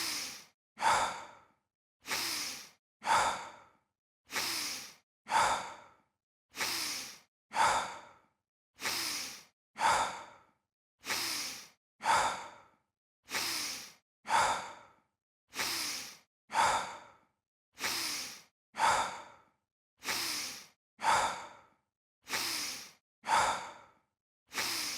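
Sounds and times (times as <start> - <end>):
heavy breathing: 0.0 - 17.2, 17.8 - 24.9.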